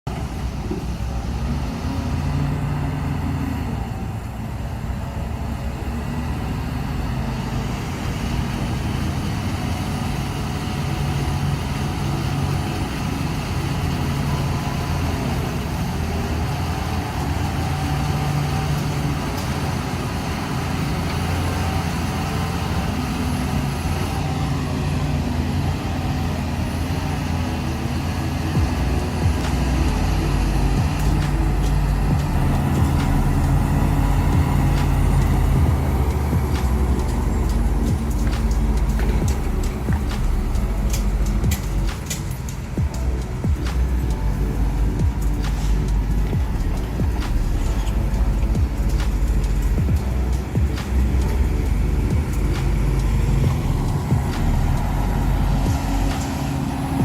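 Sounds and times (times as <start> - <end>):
diesel earthmoving machinery: 0.1 - 57.0.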